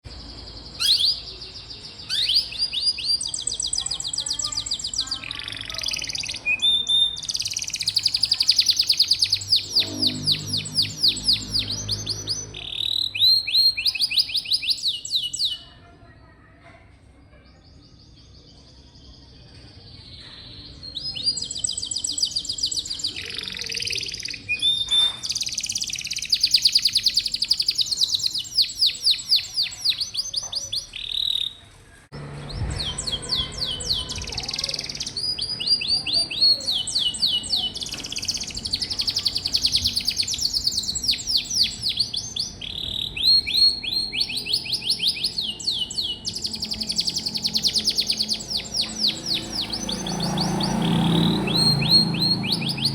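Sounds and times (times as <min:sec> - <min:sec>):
canary singing trills and chirps: 0:00.0 - 0:15.8, 0:17.8 - 0:31.7, 0:32.4 - 0:52.9.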